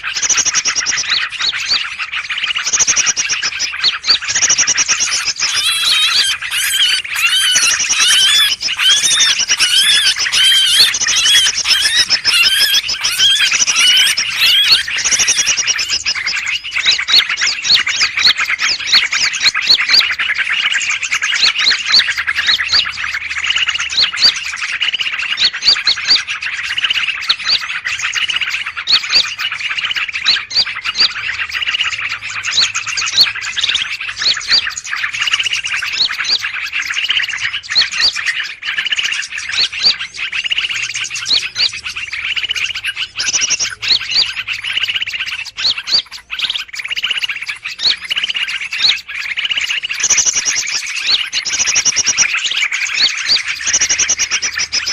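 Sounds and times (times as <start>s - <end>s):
many small birds chirping: 0.0s - 54.9s.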